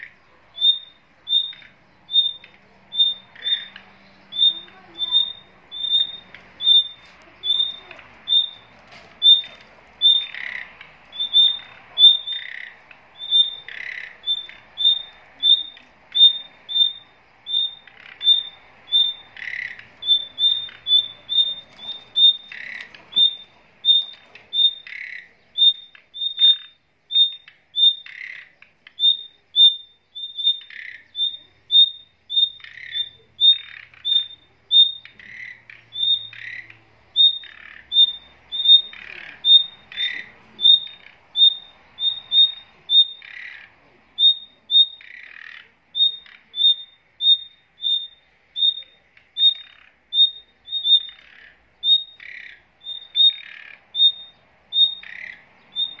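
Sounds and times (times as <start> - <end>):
rough bird chirps: 0.0 - 56.0
songbird high calls: 0.0 - 56.0.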